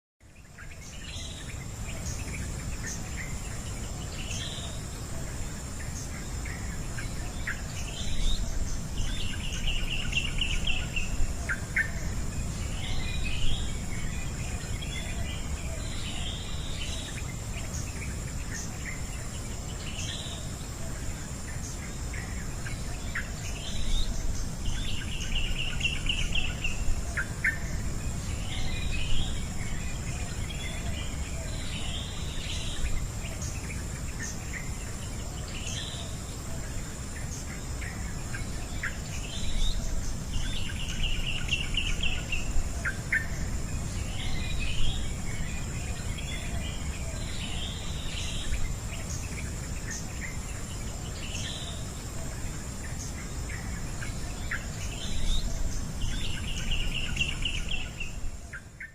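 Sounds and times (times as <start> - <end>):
birds singing trilled phrases: 0.2 - 58.9
low steady rumble: 0.7 - 58.6.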